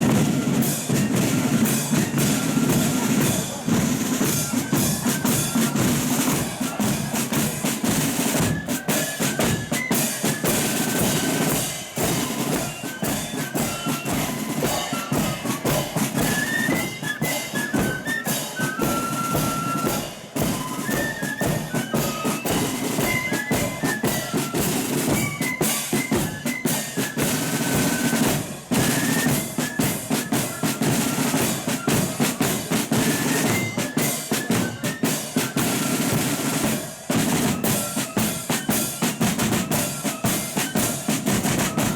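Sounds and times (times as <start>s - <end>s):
flutes playing melody: 0.0s - 41.9s
snare drum rolls: 0.0s - 41.9s.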